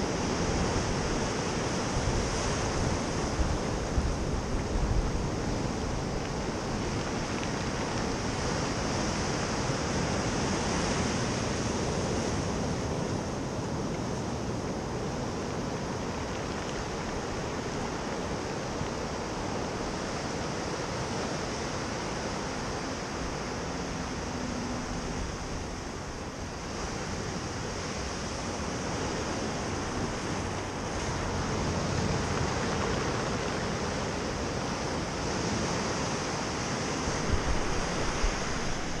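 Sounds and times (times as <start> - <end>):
surf washing up a pebbly beach: 0.0 - 39.0.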